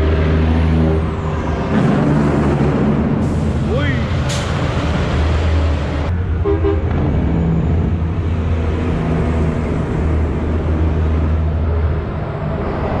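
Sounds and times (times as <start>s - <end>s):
diesel truck engines droning: 0.0s - 13.0s.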